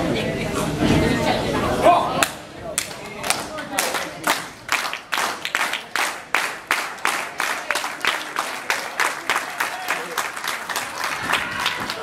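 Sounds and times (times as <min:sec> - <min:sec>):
crowd clapping in unison: 0:02.2 - 0:12.0.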